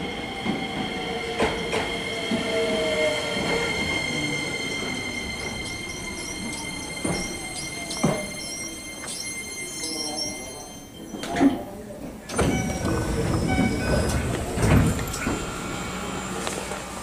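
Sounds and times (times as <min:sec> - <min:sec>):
train standing at platform: 0:00.0 - 0:17.0.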